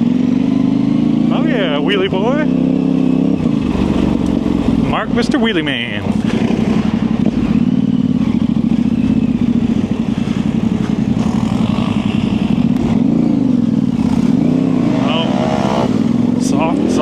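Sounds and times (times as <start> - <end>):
motorcycle engine pulling: 1.0 - 17.0.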